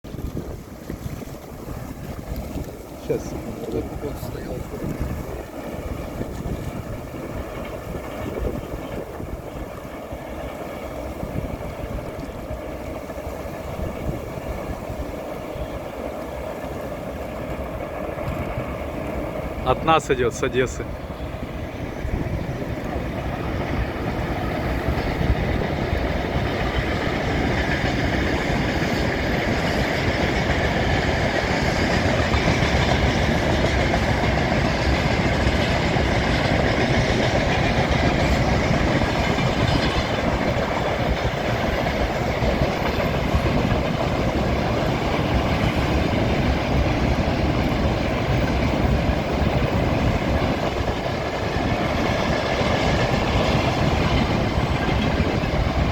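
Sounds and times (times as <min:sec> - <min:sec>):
train wheels clattering on rails: 0:00.0 - 0:55.9.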